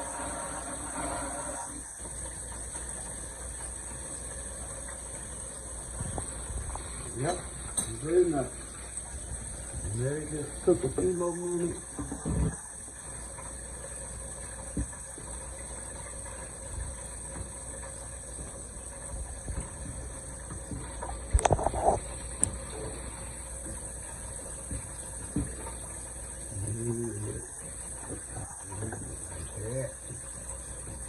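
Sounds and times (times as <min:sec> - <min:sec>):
pot simmering: 0:00.0 - 0:31.0.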